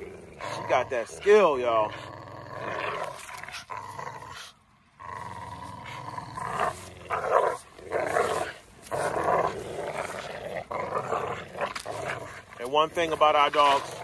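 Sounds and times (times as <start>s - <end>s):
dogs growling: 0.0s - 14.0s.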